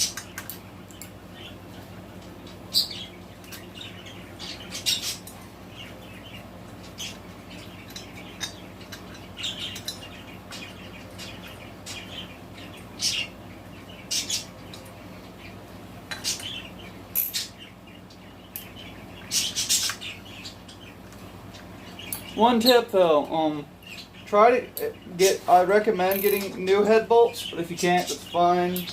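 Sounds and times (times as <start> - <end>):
budgies chirping: 0.0 - 28.9
low steady hum: 0.0 - 28.9.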